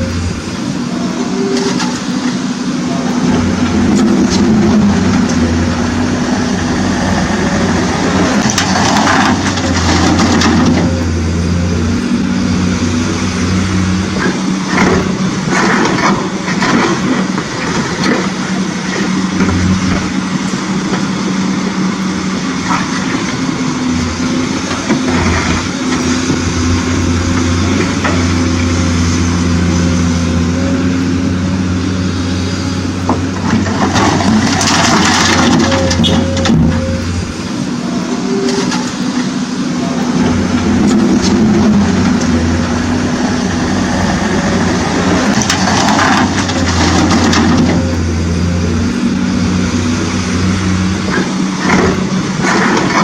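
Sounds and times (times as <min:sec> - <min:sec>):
steady engine-like hum: 0:00.0 - 0:53.0.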